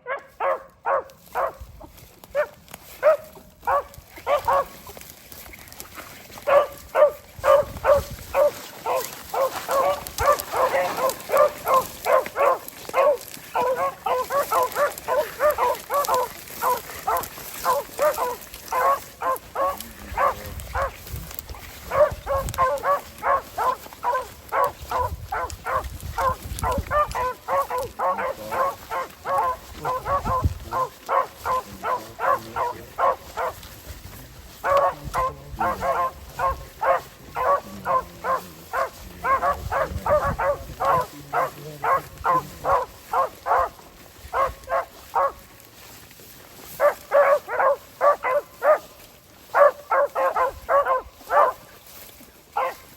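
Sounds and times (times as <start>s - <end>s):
hounds barking: 0.0s - 45.6s, 46.5s - 51.9s, 52.5s - 52.9s.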